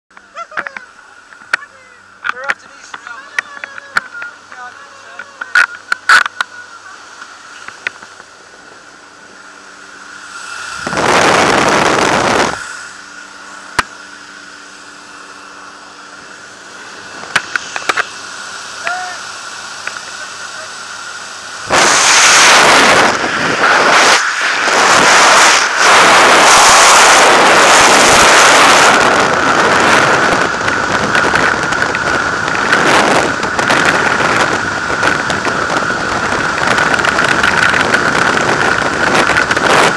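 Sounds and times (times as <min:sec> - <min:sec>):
plane engine drone: 0:00.1 - 0:39.9
freefall wind buffeting microphone: 0:00.3 - 0:39.9
rush of air: 0:06.9 - 0:39.9.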